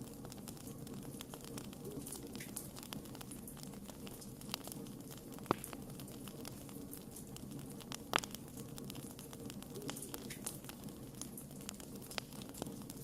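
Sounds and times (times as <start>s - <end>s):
wood campfire crackling: 0.0s - 13.0s.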